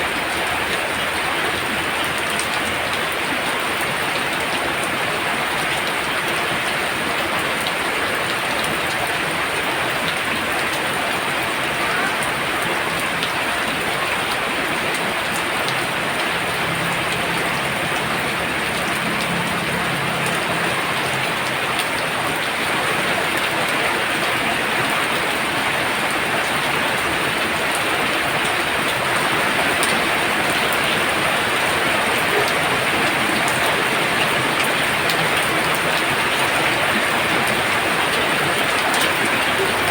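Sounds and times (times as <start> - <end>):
very heavy rain pouring: 0.0 - 39.9.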